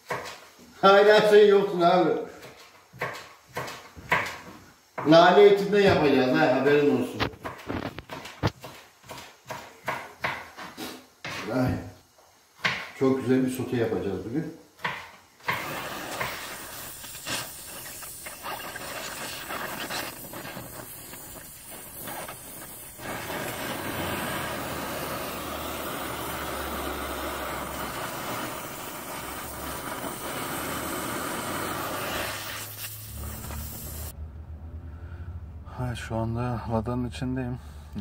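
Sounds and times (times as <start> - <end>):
arc welding hissing crackle: 0.0 - 9.5, 10.2 - 34.2.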